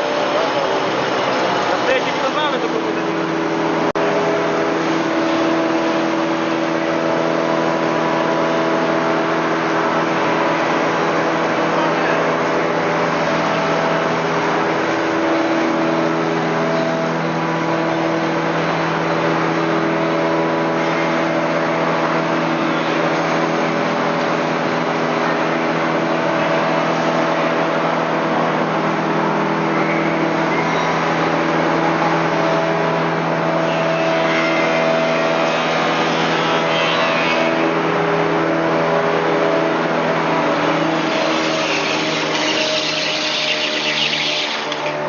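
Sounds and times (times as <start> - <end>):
band saw running: 0.0 - 45.0.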